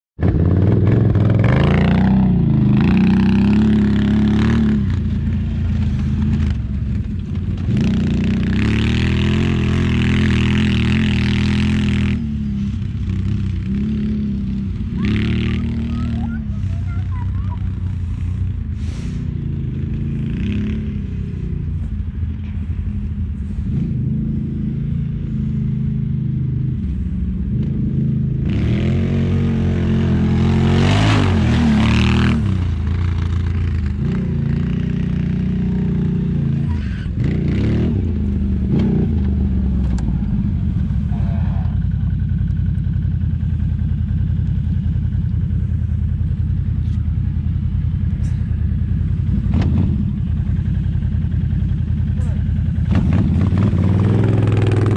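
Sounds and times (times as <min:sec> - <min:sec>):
off-road vehicle engine revving: 0:00.2 - 0:22.6, 0:23.4 - 0:54.9.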